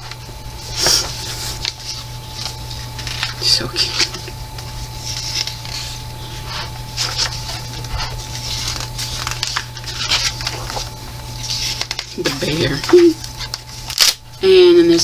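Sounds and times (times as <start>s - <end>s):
low hum: 0.0s - 15.0s
paper pages turning: 0.1s - 14.2s.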